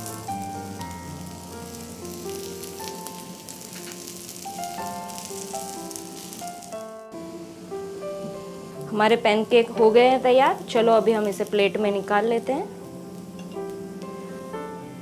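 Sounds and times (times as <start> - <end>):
pancakes sizzling in oil: 0.0 - 14.9
soft background music: 0.0 - 15.0.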